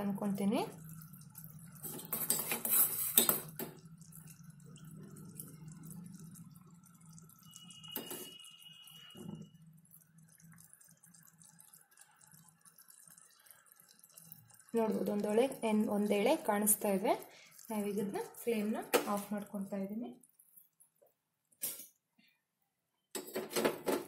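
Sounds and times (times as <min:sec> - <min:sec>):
syrup bubbling in a pot: 0:00.0 - 0:22.3.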